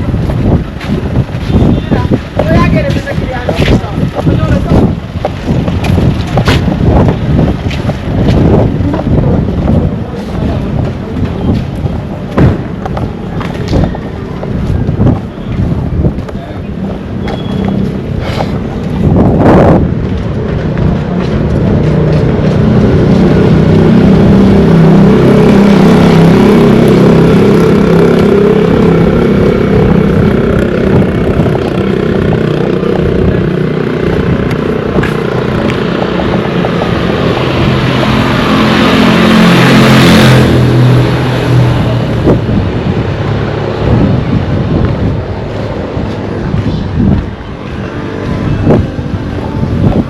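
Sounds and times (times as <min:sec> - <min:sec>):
vehicles passing by: 0:00.0 - 0:50.0.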